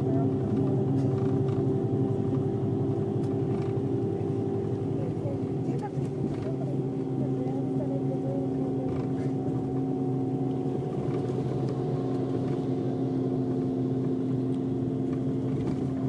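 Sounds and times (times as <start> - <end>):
coach diesel engine drone: 0.0 - 16.0
road noise: 0.0 - 16.0.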